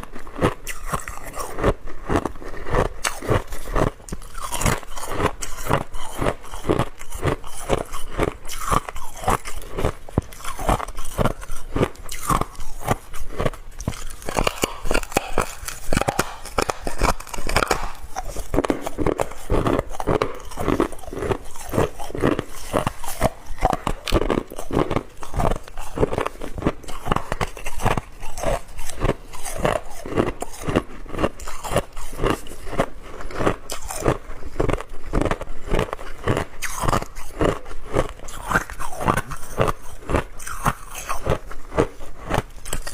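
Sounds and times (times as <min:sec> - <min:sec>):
ice being chewed crunching: 0:00.0 - 0:42.9.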